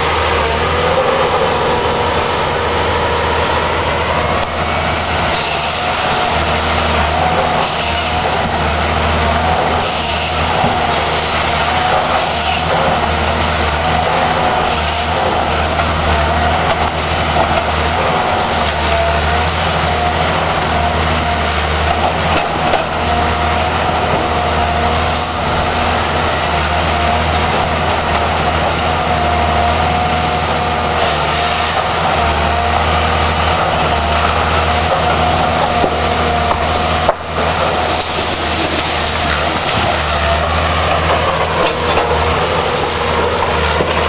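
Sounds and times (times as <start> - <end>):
wood-cutting machine running: 0.0 - 44.0.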